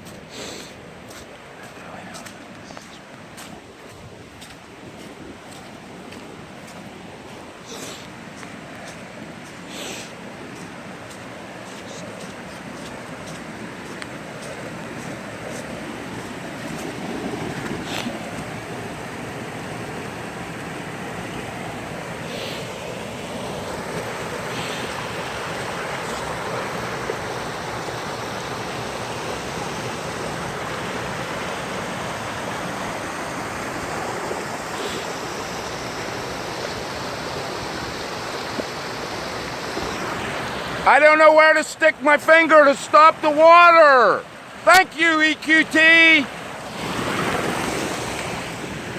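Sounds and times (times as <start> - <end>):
floodwater rushing: 0.0 - 48.9.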